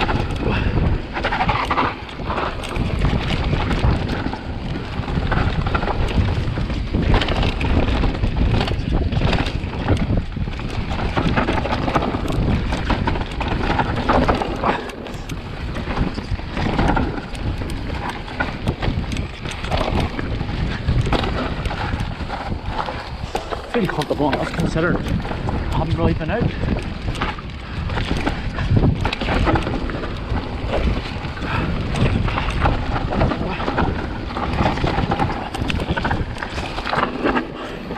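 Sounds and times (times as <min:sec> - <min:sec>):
bike chain and frame clattering: 0:00.0 - 0:37.9
bike tyres rolling over dirt: 0:00.0 - 0:37.9
wind buffeting microphone: 0:00.0 - 0:37.9.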